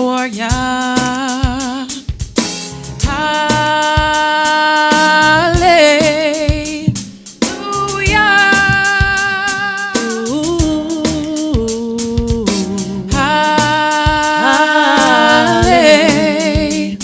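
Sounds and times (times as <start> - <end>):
person singing with vibrato: 0.0 - 2.1, 3.0 - 17.0
bass: 0.0 - 17.0
drum kit: 0.0 - 17.0.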